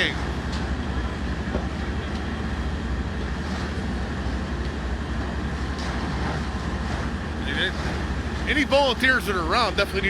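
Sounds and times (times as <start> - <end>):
fire engines running: 0.0 - 10.0
structure fire roaring: 0.0 - 10.0.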